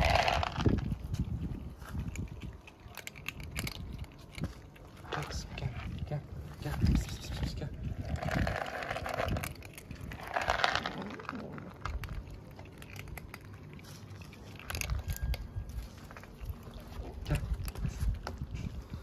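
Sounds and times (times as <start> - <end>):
kittens crunching dry kibble: 0.0 - 19.0.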